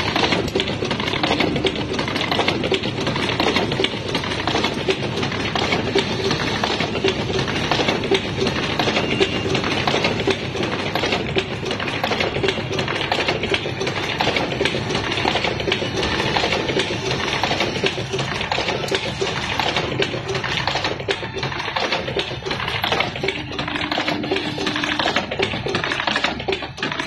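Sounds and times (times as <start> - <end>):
machine clicking and clattering: 0.0 - 27.0.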